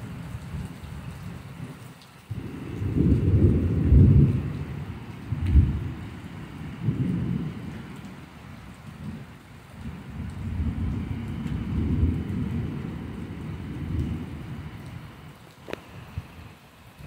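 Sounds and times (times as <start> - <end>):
rain hissing: 0.0 - 17.0
thunder rumbling: 2.3 - 16.5.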